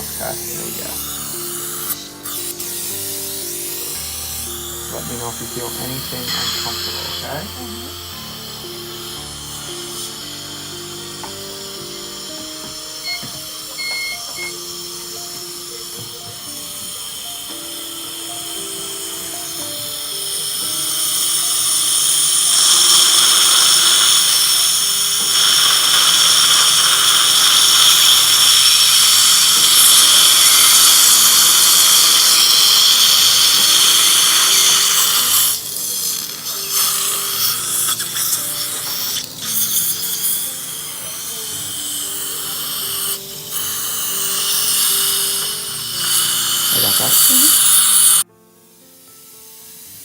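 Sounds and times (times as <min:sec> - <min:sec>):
dental drill whining: 0:00.0 - 0:48.3.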